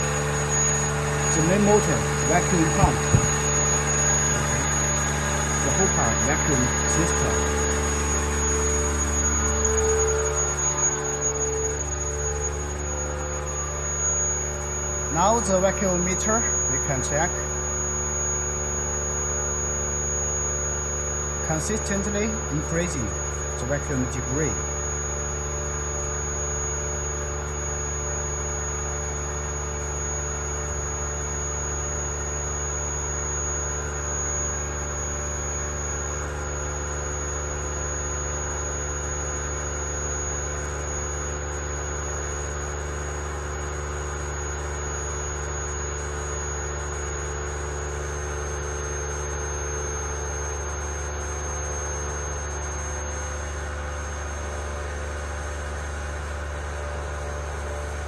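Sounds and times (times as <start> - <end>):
vacuum pump humming with whine: 0.0 - 58.0.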